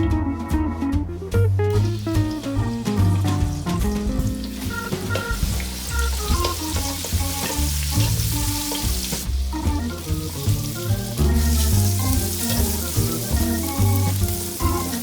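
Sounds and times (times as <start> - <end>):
jazz background music: 0.0 - 15.0
food sizzling in a pan: 1.7 - 15.0.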